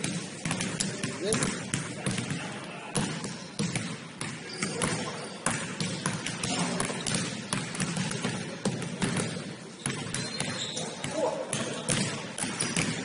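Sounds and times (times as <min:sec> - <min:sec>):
basketball bouncing on gym floor: 0:00.0 - 0:13.0.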